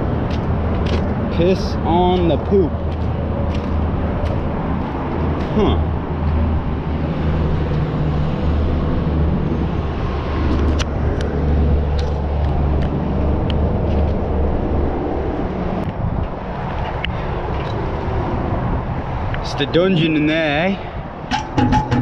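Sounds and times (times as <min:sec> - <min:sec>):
highway traffic rumble: 0:00.0 - 0:22.0.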